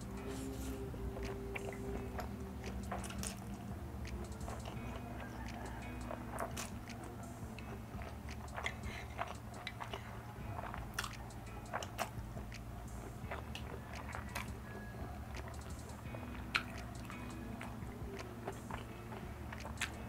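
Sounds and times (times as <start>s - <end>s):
chewing with wet mouth clicks: 0.0s - 20.0s
steady low hum: 0.0s - 20.0s.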